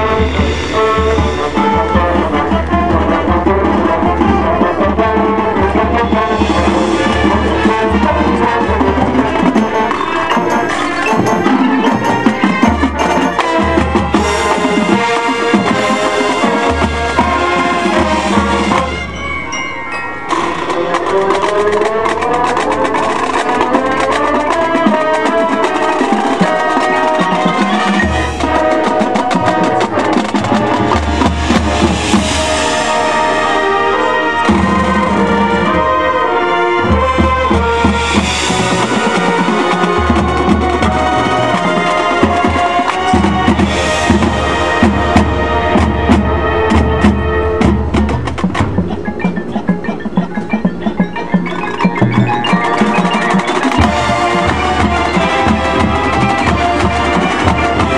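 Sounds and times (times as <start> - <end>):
drumline of snare and bass drums: 0.0 - 19.2, 20.3 - 57.9
marching band wind instruments: 0.0 - 57.9.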